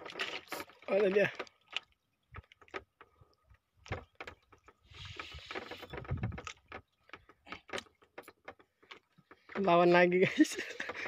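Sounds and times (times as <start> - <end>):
knocks and clicks on wooden boat: 0.0 - 11.0.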